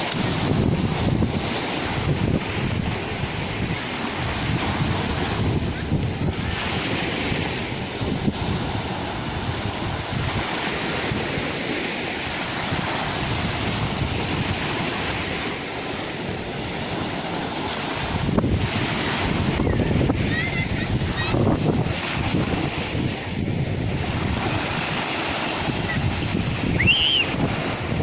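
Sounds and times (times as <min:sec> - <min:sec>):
sea waves breaking on shore: 0:00.0 - 0:28.0
wind rumbling on microphone: 0:00.0 - 0:28.0.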